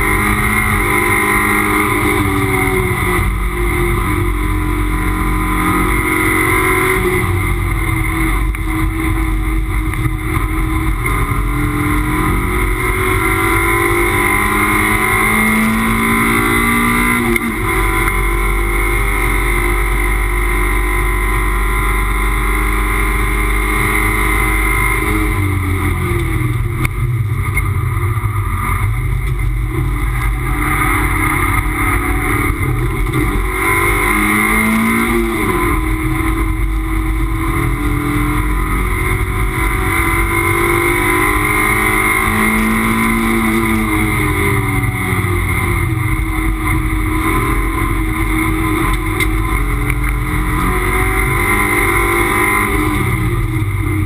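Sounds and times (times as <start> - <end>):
race car engine under load: 0.0 - 54.0.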